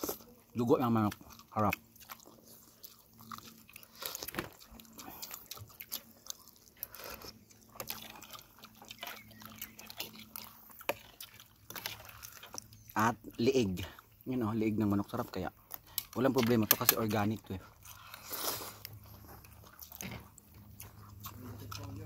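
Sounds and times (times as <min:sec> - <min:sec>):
chewing and lip smacks: 0:00.0 - 0:22.0.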